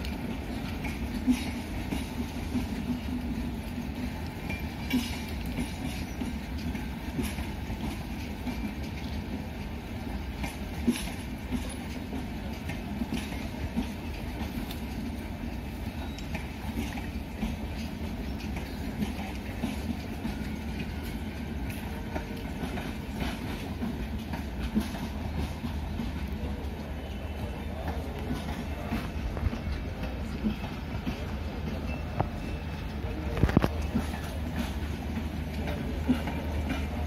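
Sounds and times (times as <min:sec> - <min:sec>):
train rumbling on tracks: 0:00.0 - 0:37.0
wheels and couplings clanking: 0:00.0 - 0:37.0.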